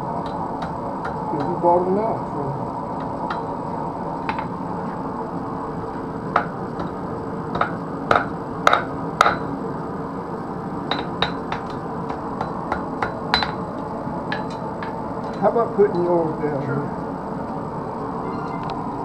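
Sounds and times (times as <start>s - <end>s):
forge background noise: 0.0s - 19.0s.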